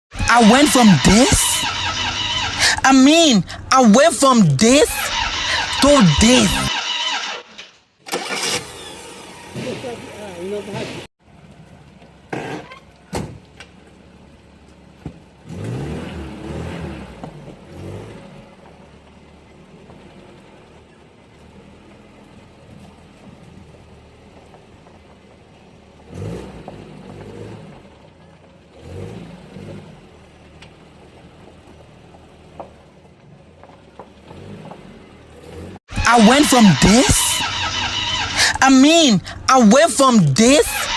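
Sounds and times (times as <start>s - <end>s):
car engine idling and revving: 0.1s - 7.7s, 8.3s - 40.9s.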